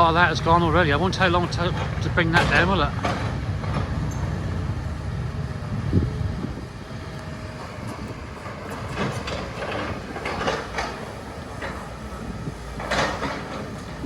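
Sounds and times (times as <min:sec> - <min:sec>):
demolition machinery engine rumble: 0:00.0 - 0:14.0.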